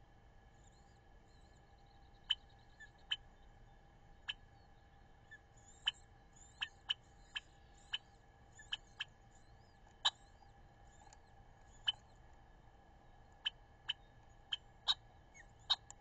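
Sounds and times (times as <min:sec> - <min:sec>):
electrical hum: 0:00.0 - 0:16.0
small birds chirping: 0:00.4 - 0:16.0.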